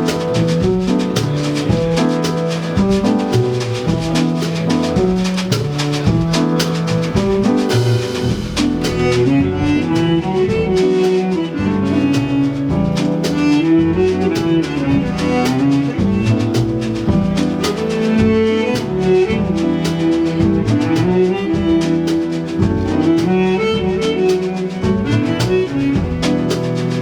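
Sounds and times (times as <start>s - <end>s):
instrumental jazz music: 0.0s - 27.0s.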